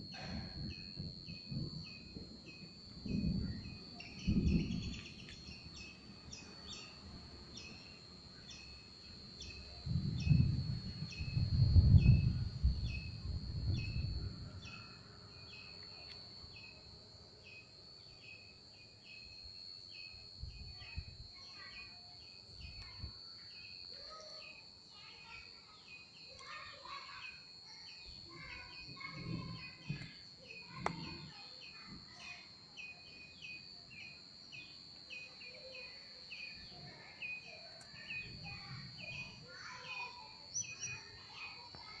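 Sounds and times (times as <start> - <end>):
steady high-pitched whine: 0.0 - 42.0.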